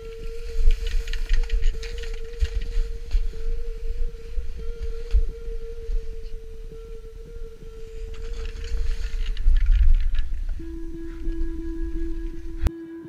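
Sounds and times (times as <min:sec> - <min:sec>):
wind buffeting microphone: 0:00.0 - 0:12.7
steady hum: 0:00.0 - 0:13.0.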